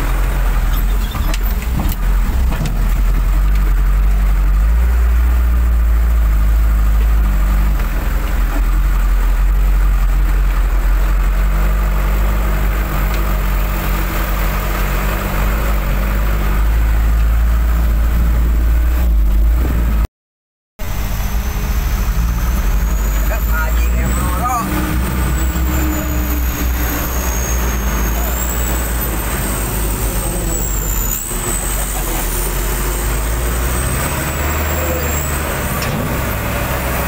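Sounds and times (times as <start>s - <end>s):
diesel engine running: 0.0s - 20.1s, 20.8s - 37.0s.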